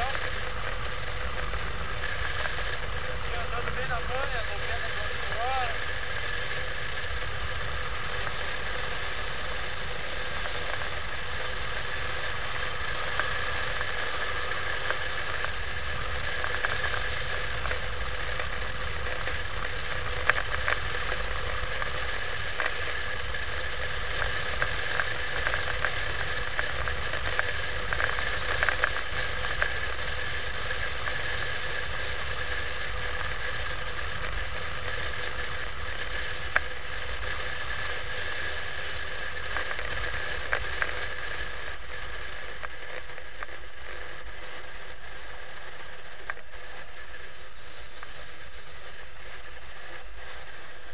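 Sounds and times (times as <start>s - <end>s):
motorcycle engine cruising: 0.0s - 50.9s
wind and road noise: 0.0s - 50.9s.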